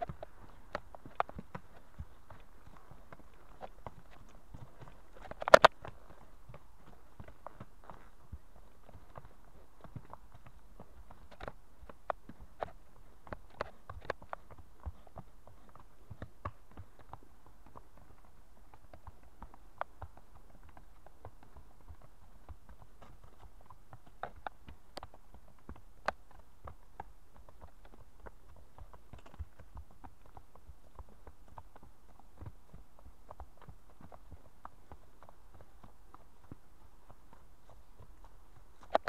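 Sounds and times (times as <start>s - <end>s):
horse hooves walking on dirt: 0.0s - 39.0s.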